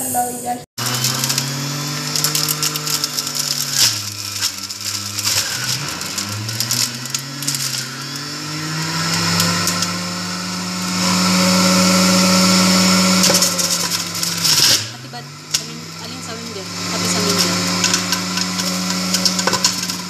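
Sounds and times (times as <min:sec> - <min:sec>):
juicer motor whine: 0:00.8 - 0:20.0.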